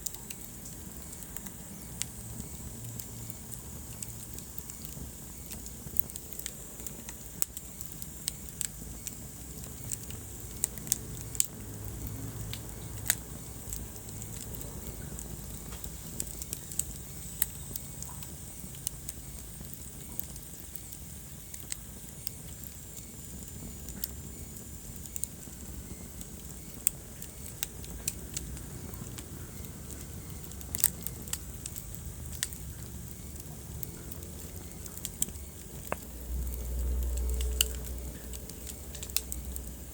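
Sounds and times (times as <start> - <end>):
low fire rumble: 0.0 - 39.9
sharp fire pops: 0.0 - 39.9
wood fire crackling: 0.0 - 39.9.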